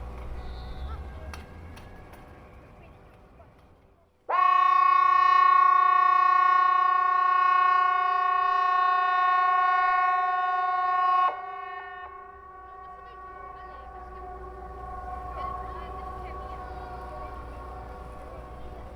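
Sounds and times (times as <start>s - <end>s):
civil defence siren steady tone: 0.0s - 2.9s, 4.2s - 18.9s.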